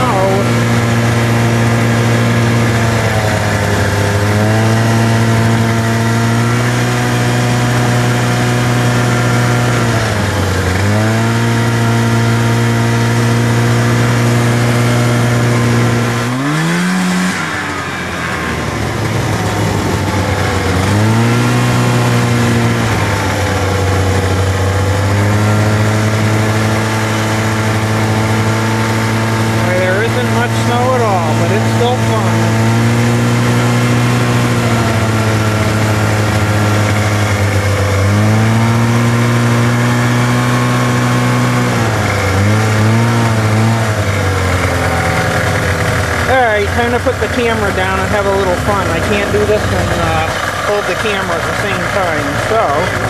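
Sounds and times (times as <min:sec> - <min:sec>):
snowmobile engine revving: 0:00.0 - 0:53.0.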